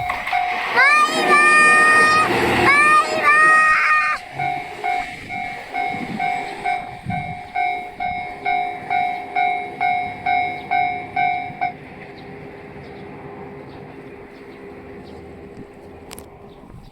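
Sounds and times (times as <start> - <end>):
level crossing warning bell: 0.0 - 13.9.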